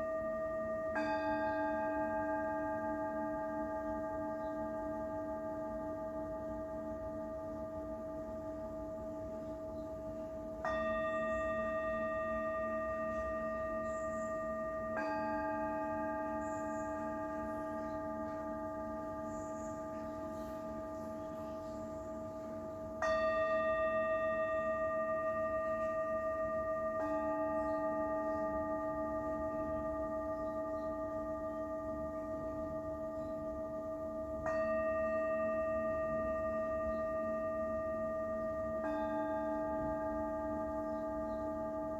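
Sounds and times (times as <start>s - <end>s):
singing bowls ringing: 0.0s - 41.9s.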